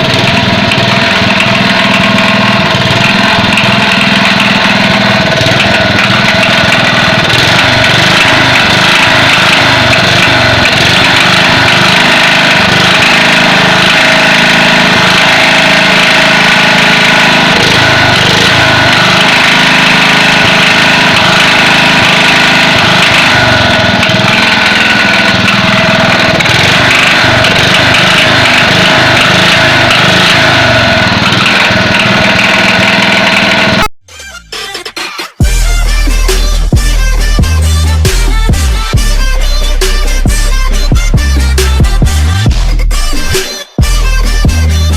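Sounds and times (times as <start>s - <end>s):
generator engine running: 0.0s - 44.9s.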